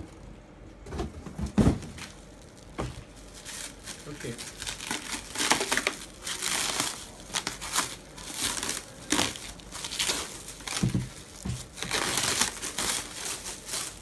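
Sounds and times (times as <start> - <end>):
plastic film crinkling: 2.0 - 14.0.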